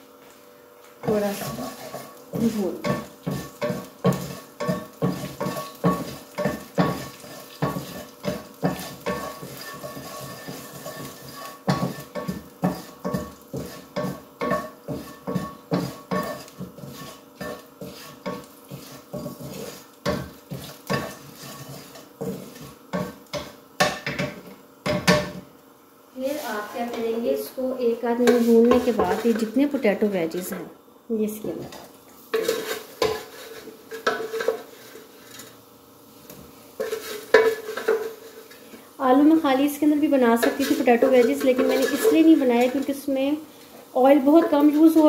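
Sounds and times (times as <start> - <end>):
oil sizzling: 0.0 - 45.0
spatula scraping frying pan: 1.0 - 25.4, 28.2 - 30.6, 31.6 - 35.6, 36.8 - 45.0.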